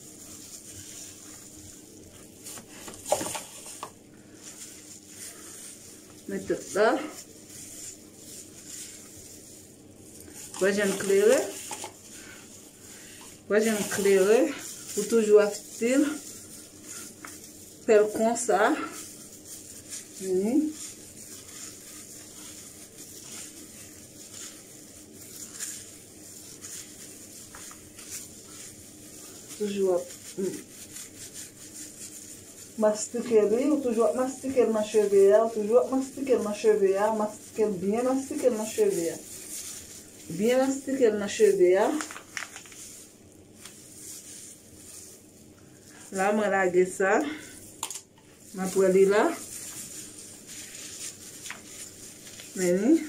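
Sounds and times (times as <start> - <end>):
gloved hand squishing wet hair: 0.0 - 53.0.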